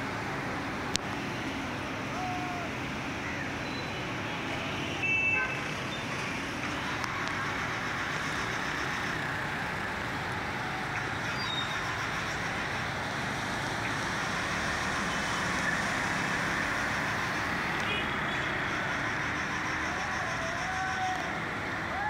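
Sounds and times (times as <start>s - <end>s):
traffic on wet road: 0.0s - 22.0s.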